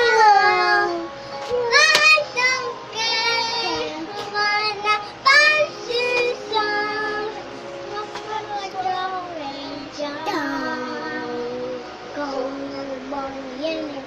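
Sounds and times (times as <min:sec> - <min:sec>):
young girl singing: 0:00.0 - 0:14.0.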